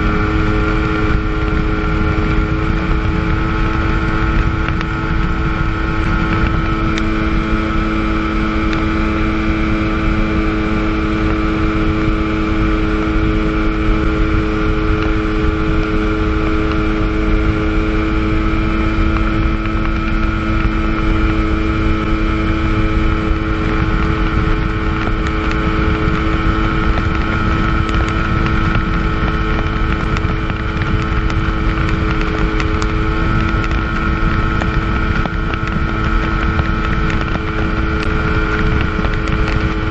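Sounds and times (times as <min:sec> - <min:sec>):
rush of wind and water: 0:00.0 - 0:39.9
watercraft engine running flat out: 0:00.0 - 0:39.9.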